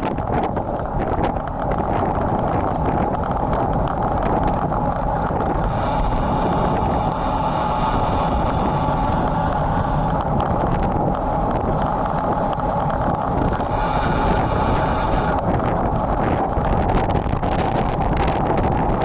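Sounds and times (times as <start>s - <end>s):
wind buffeting microphone: 0.0s - 19.0s
road noise: 0.6s - 16.8s.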